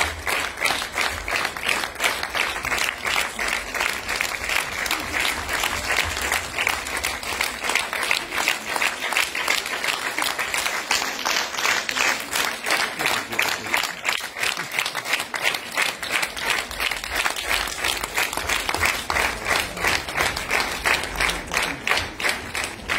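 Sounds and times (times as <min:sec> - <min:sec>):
audience applauding: 0:00.0 - 0:22.9.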